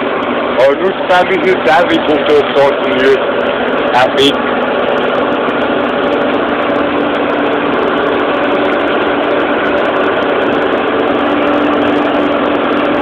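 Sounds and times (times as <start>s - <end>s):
flail mower cutting hedge: 0.0s - 13.0s
tractor engine running: 0.0s - 13.0s.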